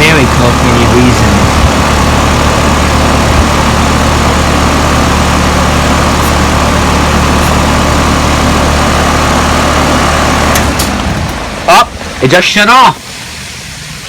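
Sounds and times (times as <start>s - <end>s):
air conditioner unit running: 0.0s - 14.0s.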